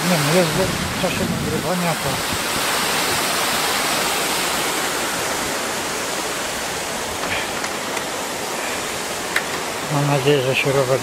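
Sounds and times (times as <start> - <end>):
water rushing from dam: 0.0 - 11.0.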